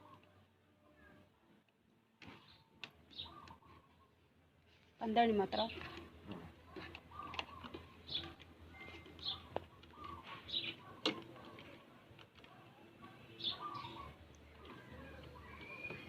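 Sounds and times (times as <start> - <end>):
birds chirping: 2.2 - 4.2, 5.0 - 16.0.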